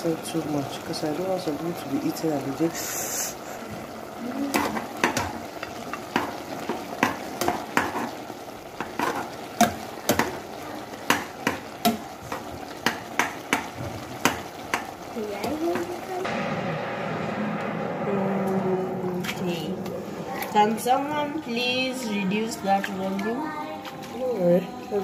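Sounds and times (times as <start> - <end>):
sizzling in a pot: 0.0 - 25.0.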